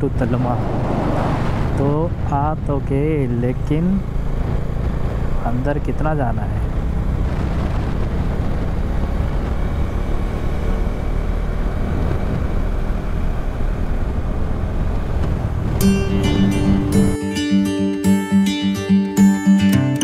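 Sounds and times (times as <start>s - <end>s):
motorcycle engine drone: 0.0s - 17.2s
wind and road noise: 0.0s - 17.2s.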